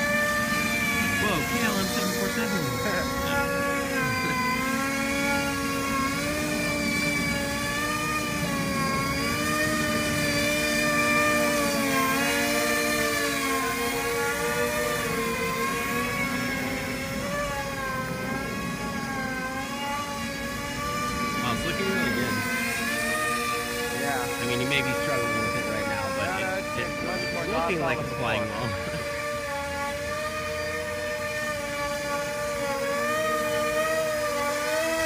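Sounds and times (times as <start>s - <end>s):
drone propellers buzzing whine: 0.0s - 35.0s.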